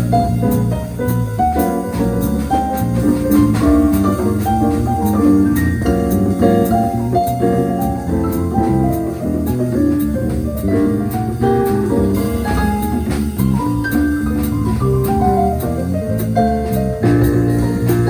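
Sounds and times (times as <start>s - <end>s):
drums and cymbals: 0.0s - 18.0s
piano notes: 0.0s - 18.0s
walking bass: 0.0s - 18.0s.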